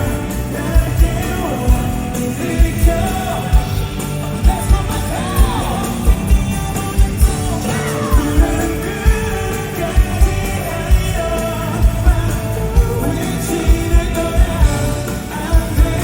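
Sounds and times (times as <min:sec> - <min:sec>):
live pop-rock band playing: 0:00.0 - 0:16.0
person singing: 0:00.0 - 0:16.0.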